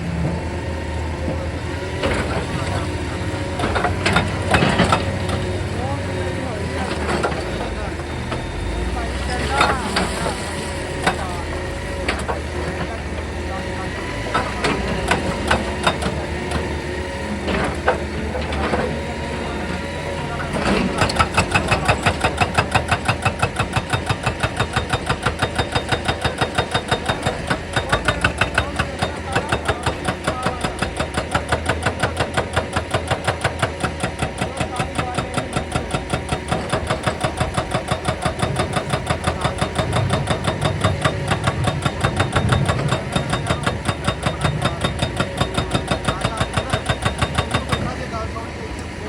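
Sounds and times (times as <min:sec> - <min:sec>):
machine engine running: 0:00.0 - 0:49.0
hydraulic breaker hammering rock: 0:01.2 - 0:49.0.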